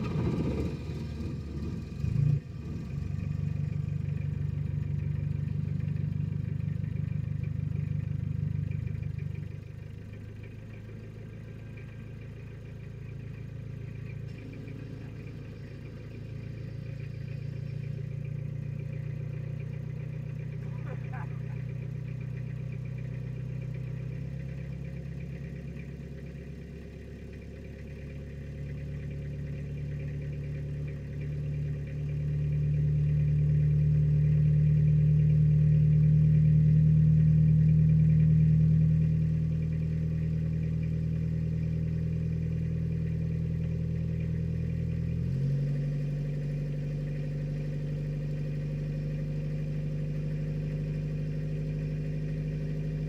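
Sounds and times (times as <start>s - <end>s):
diesel engine idling: 0.0s - 53.0s.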